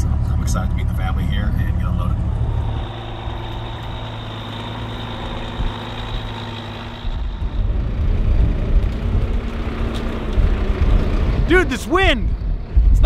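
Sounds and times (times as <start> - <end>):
diesel truck engine idling: 0.0 - 12.4
wind buffeting microphone: 2.0 - 13.0.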